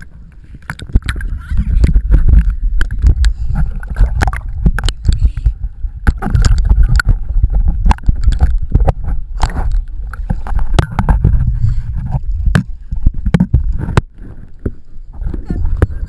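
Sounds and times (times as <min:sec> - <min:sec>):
low rumble: 0:00.0 - 0:16.0
water sloshing and splashing: 0:00.0 - 0:16.0.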